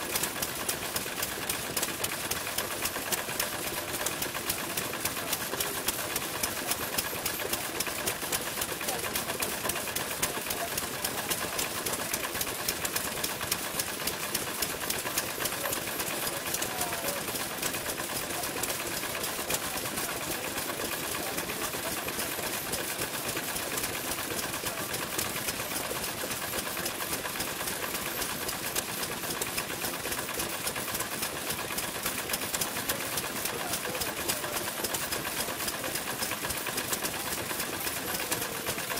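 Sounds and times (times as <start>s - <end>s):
stationary engines clattering: 0.0s - 38.9s.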